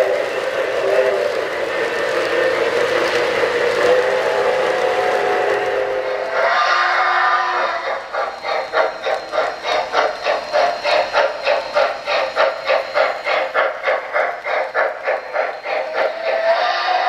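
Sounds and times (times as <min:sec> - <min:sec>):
electronic steam chuffing: 0:00.0 - 0:17.0.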